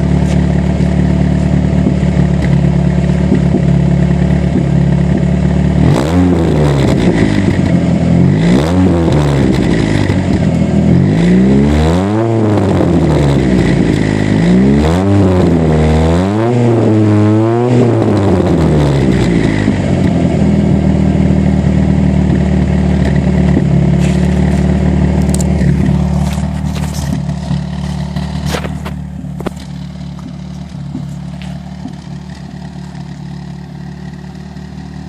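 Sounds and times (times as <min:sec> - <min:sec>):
car engine revving and idling: 0:00.0 - 0:35.0.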